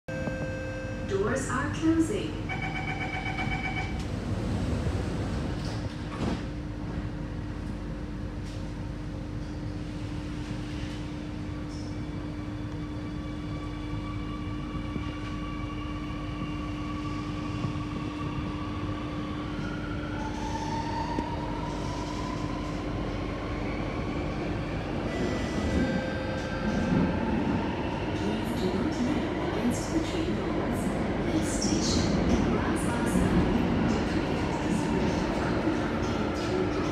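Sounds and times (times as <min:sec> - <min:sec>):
metro car hum: 0:00.1 - 0:36.9.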